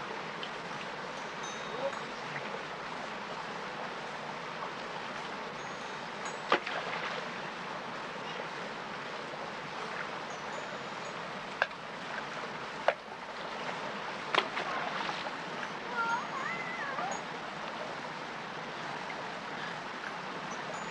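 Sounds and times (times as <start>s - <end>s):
stream running over rocks: 0.0s - 20.9s.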